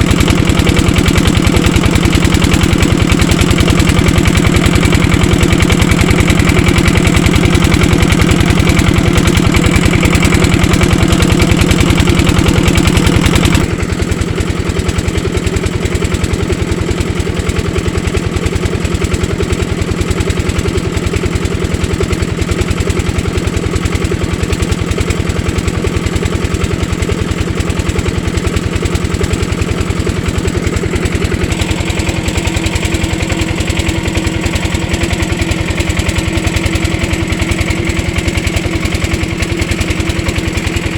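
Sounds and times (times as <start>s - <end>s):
diesel pump engine running: 0.0s - 40.9s.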